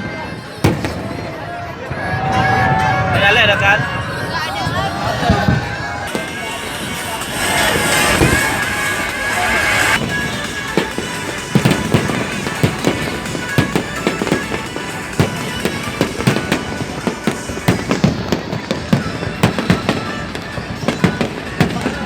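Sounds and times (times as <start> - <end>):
faint music: 0.0 - 22.0
fireworks bangs and crackles: 0.0 - 22.0.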